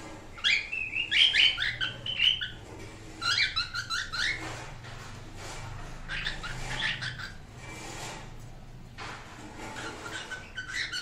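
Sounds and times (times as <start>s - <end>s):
cockatiels chirping: 0.3s - 8.1s, 9.6s - 11.0s.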